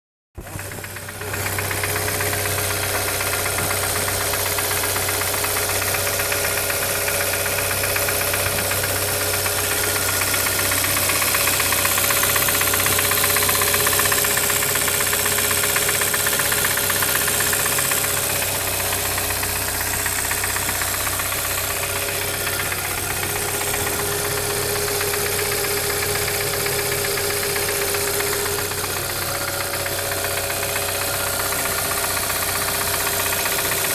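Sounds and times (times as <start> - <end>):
engine running with rapid knock: 0.4 - 33.9.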